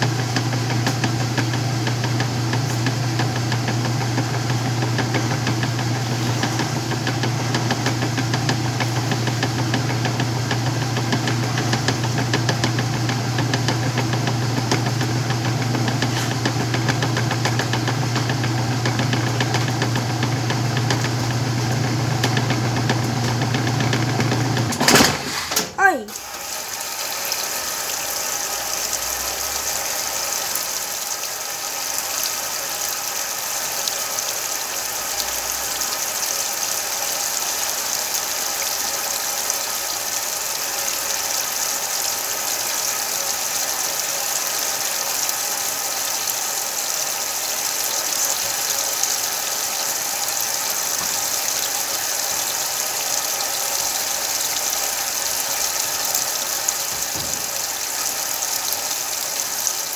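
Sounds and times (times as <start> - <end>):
washing machine hiss: 0.0 - 59.9
washing machine motor whine: 0.0 - 59.9.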